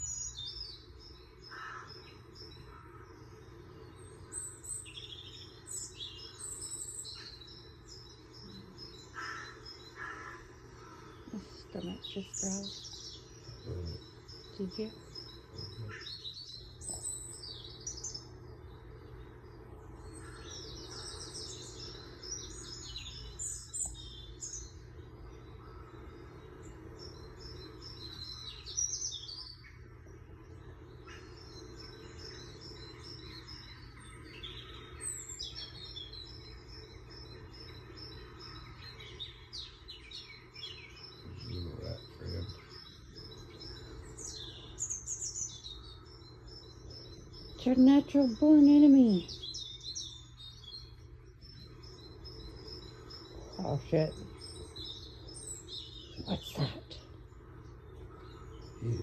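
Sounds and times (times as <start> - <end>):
small birds chirping: 0.0 - 59.0
steady low hum: 0.0 - 59.0.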